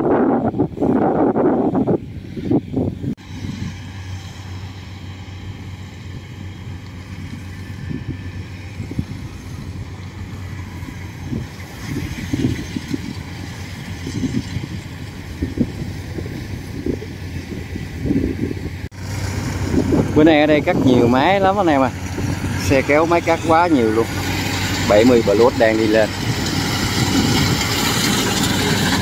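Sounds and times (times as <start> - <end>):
wind gusting on microphone: 0.0 - 29.0
combine harvester engine humming: 0.1 - 29.0.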